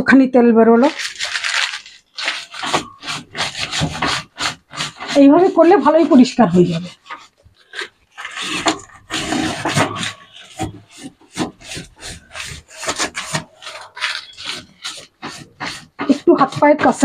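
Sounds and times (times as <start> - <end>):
scrubbing metal mesh filter: 0.8 - 17.0.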